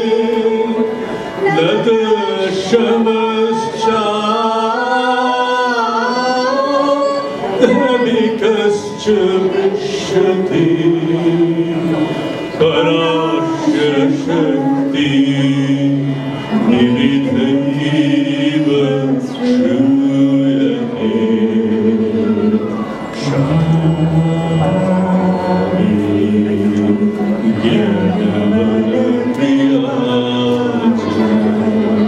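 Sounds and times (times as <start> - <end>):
man and woman singing: 0.0 - 32.0.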